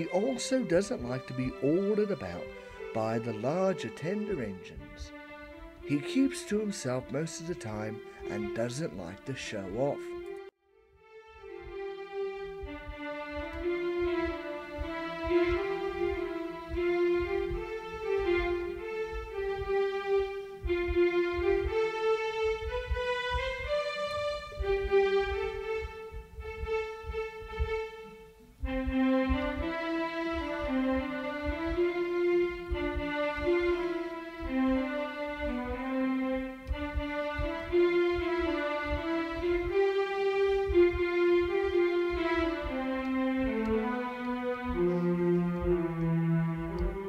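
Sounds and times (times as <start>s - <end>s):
instrumental music with beat: 0.0s - 47.0s.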